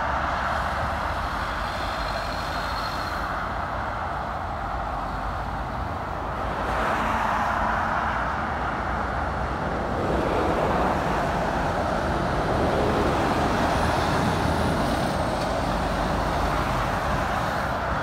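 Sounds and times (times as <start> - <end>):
motorway traffic rushing: 0.0 - 18.0.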